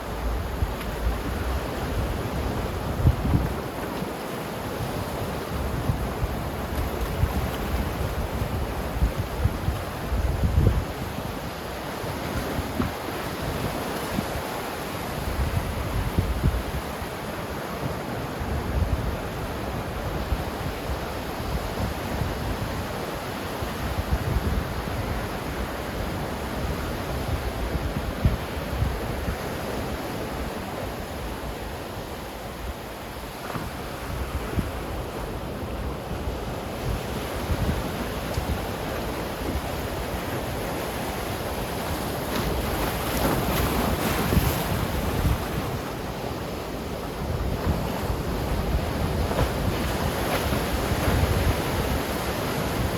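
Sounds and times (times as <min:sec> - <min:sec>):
ocean surf washing ashore: 0:00.0 - 0:52.9
wind on microphone: 0:00.0 - 0:52.9.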